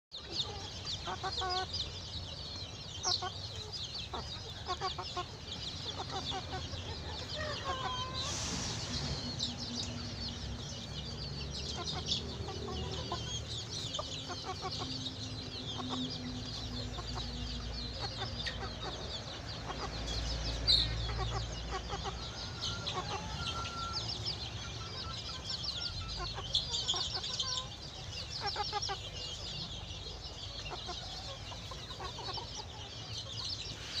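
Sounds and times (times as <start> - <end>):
chicks chirping: 0.1 - 34.0
young chickens clucking: 0.1 - 34.0.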